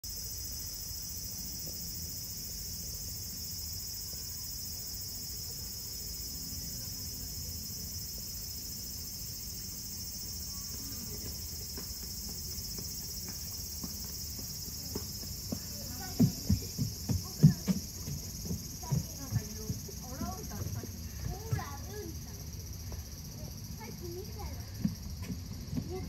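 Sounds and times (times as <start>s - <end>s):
high-pitched insect chorus chirring: 0.0s - 26.0s.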